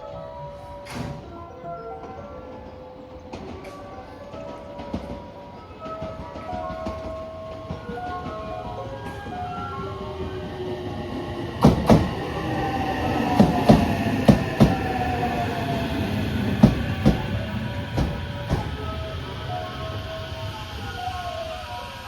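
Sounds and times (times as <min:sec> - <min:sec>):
train rumble: 0:00.4 - 0:22.0
train wheels clacking over joints: 0:02.4 - 0:20.4.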